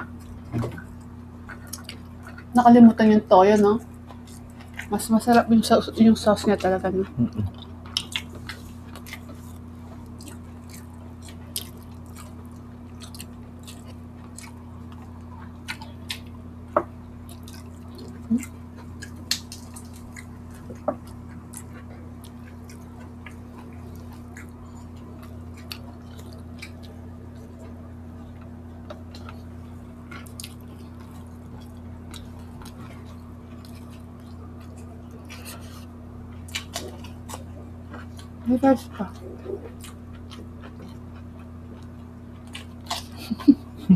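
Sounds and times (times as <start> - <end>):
wet chewing and smacking: 0.0 - 2.6, 3.4 - 43.8
steady low hum: 0.0 - 43.9.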